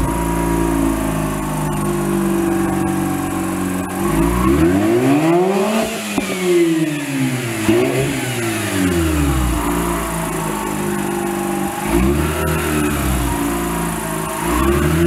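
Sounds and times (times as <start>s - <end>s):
rotary engine idling and revving: 0.0s - 15.0s.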